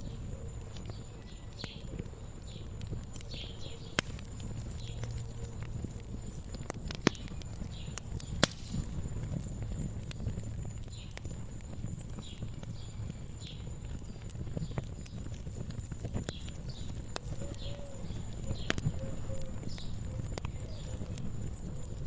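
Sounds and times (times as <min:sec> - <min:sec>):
low steady rumble: 0:00.0 - 0:22.0
wood fire crackling and popping: 0:00.0 - 0:22.0.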